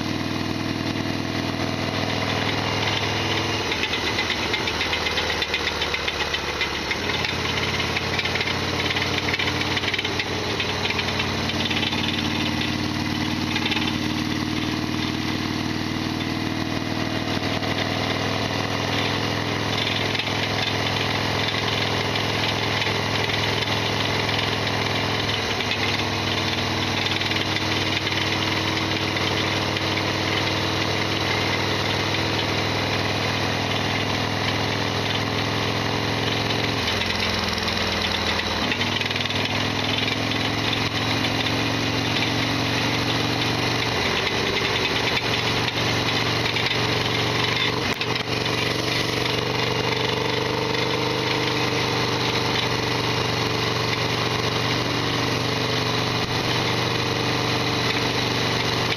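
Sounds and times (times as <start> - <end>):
loud mechanical clatter and rattle: 0.0 - 58.9
motorcycle engine running: 0.0 - 58.9.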